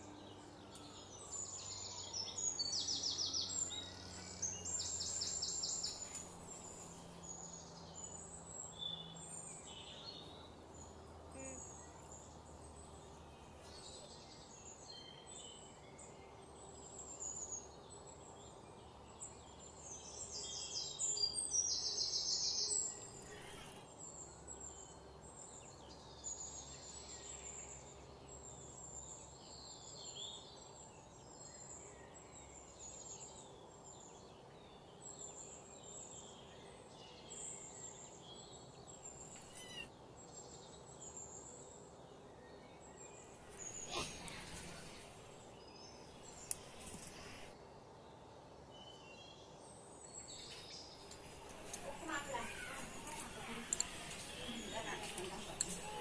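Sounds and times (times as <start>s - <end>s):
birds chirping: 0.0s - 31.9s, 32.5s - 56.0s.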